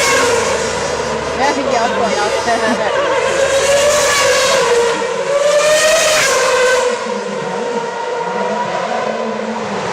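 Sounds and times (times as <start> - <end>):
racing car engines whining: 0.0 - 9.9.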